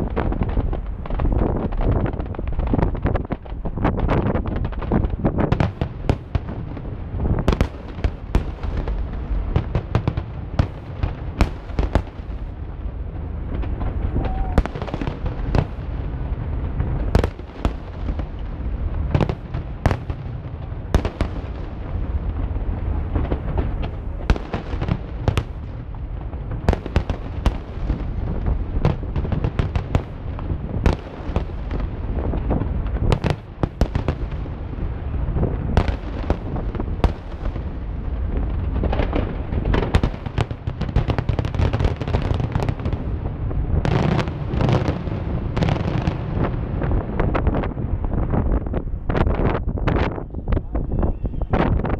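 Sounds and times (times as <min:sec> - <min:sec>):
fireworks bangs: 0:00.0 - 0:51.9
fireworks rumble: 0:00.0 - 0:51.9.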